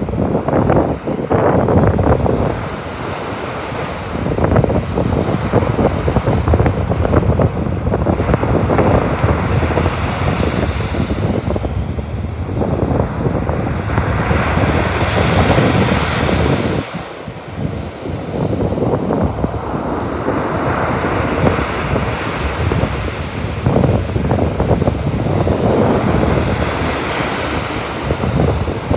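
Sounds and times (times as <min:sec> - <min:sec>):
surf washing up a beach: 0:00.0 - 0:28.9
wind buffeting the microphone: 0:00.0 - 0:28.9.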